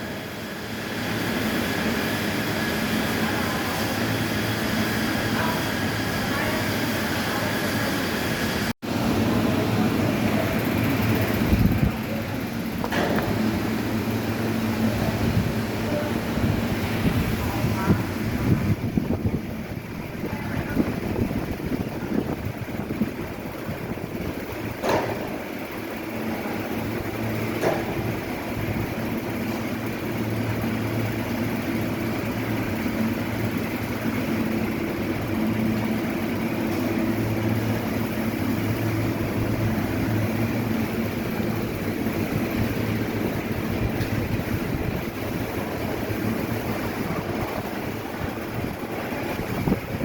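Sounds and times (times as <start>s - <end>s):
heavy machinery engine hum: 0.0s - 50.0s.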